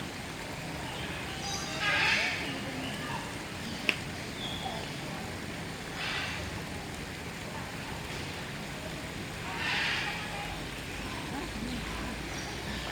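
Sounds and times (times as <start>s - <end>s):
outdoor background murmur: 0.0s - 12.9s
faint distant voices: 0.1s - 12.9s.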